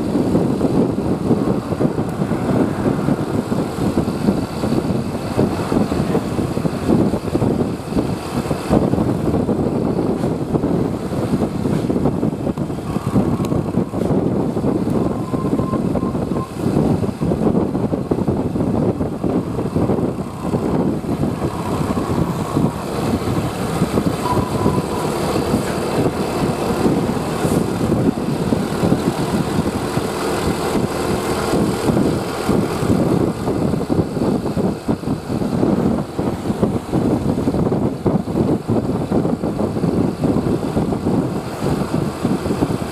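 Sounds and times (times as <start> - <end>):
road noise: 0.0 - 42.9
vehicle engine running: 0.0 - 42.9.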